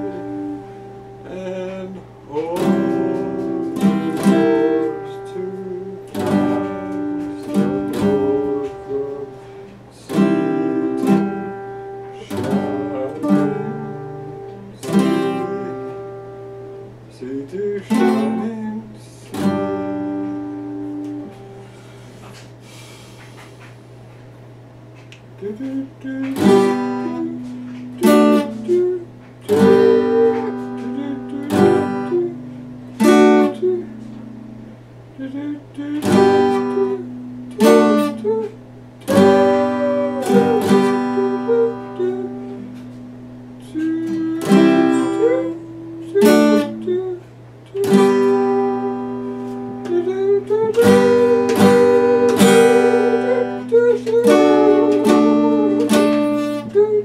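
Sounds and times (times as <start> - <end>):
acoustic guitar chords ringing: 0.0 - 57.0.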